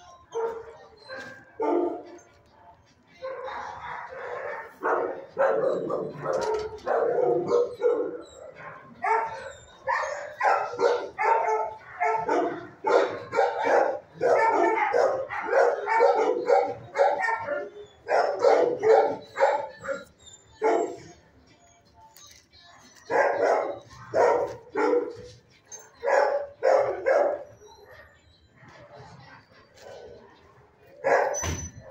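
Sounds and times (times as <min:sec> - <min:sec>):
dogs barking: 0:00.0 - 0:02.4, 0:03.1 - 0:21.3, 0:22.8 - 0:31.9.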